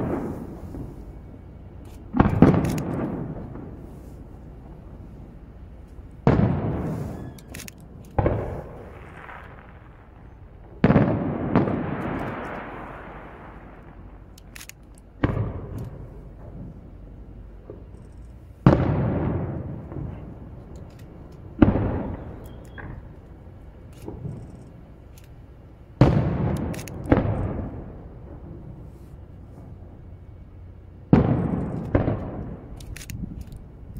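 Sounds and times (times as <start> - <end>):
firework booms with rolling echo: 0.0 - 14.4, 15.1 - 24.5, 26.0 - 33.9
faint firework crackles: 0.0 - 33.9.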